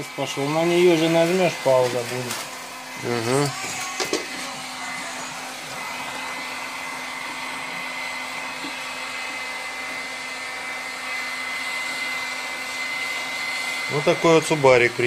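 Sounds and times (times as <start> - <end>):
heat gun blowing: 0.0 - 15.0.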